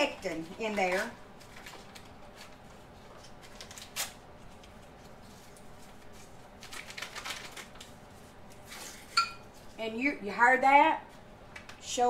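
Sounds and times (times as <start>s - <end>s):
paper packets rustling: 0.0s - 9.8s.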